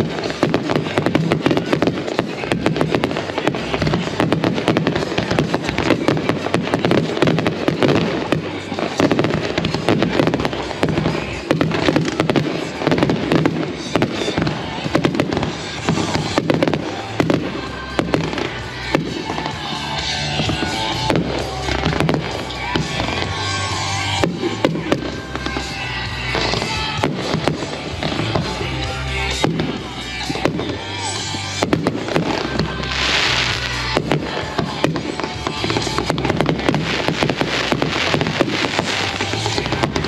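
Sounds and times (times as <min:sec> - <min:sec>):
fireworks crackle: 0:00.0 - 0:40.0
fireworks firing and bursting: 0:00.0 - 0:40.0
music playing: 0:00.0 - 0:40.0.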